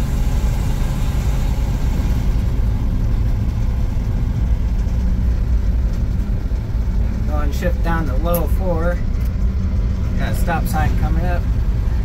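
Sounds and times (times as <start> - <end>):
road noise: 0.0 - 12.0
truck engine droning: 0.0 - 12.0.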